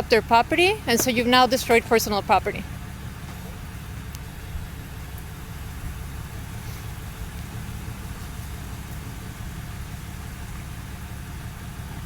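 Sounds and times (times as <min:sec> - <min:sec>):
engine idling: 0:00.0 - 0:12.0
street noise hiss: 0:00.0 - 0:12.0.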